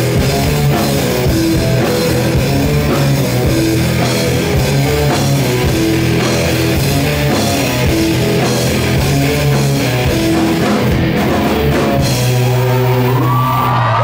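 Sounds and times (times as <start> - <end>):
drum kit with crashing cymbals: 0.0 - 12.8
bass guitar: 0.0 - 14.0
distorted electric guitars: 0.0 - 14.0.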